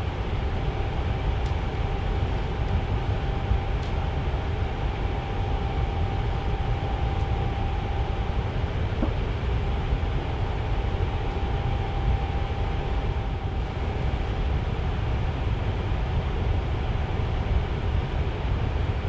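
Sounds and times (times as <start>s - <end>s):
faint steady hum: 0.0s - 19.0s
tower fan airflow rush: 0.0s - 19.0s.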